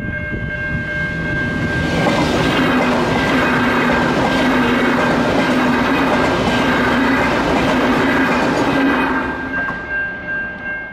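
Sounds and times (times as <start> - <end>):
train wheels rumbling on rail: 0.0 - 10.9.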